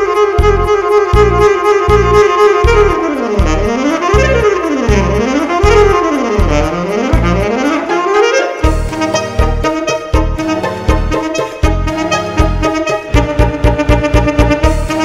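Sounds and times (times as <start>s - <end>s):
drums: 0.0s - 7.9s, 8.6s - 15.0s
alto saxophone fast runs: 0.0s - 15.0s
electric bass: 0.0s - 15.0s.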